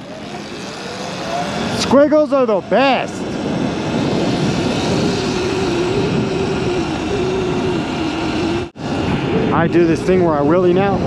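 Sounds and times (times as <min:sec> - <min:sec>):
electric motor hum: 0:00.0 - 0:10.7
wind rushing over microphone: 0:00.0 - 0:11.0.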